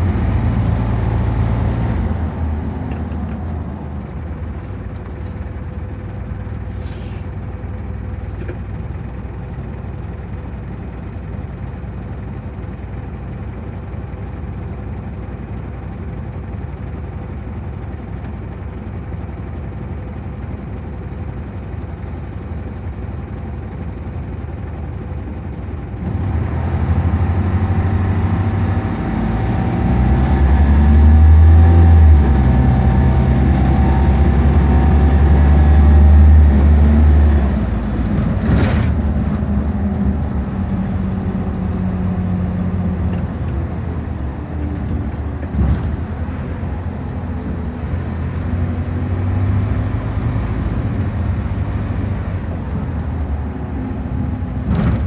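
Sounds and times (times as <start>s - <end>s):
diesel bus engine: 0.0s - 55.0s.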